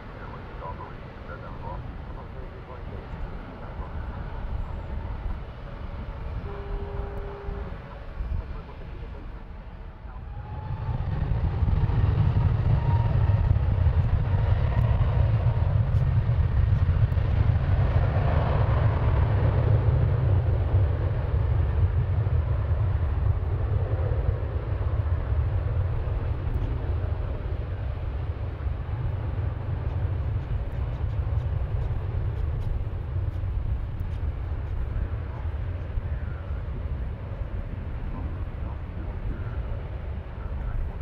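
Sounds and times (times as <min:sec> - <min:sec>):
jet engines rumbling: 0:00.0 - 0:41.0.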